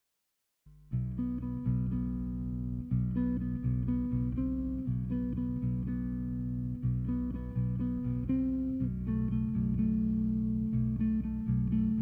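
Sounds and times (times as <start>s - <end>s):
guitar chords strummed: 0.9s - 12.0s.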